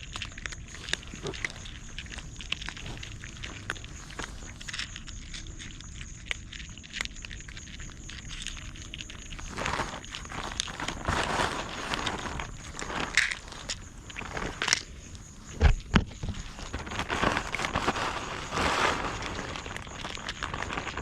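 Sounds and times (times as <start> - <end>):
rustling and crackling: 0.0 - 21.0.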